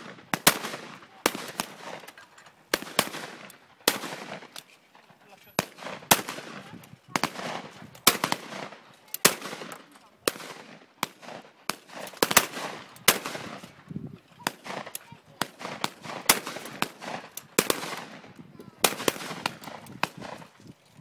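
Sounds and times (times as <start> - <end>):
shotgun shots with echo: 0.0 - 2.1, 2.7 - 4.6, 5.6 - 13.7, 14.4 - 20.5.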